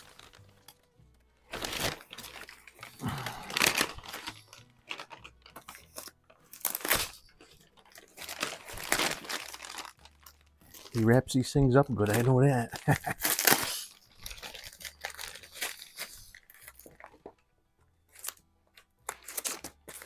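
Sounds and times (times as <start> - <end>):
packing wrap being torn: 0.0 - 0.7, 1.5 - 11.1, 11.9 - 17.1, 19.0 - 20.0.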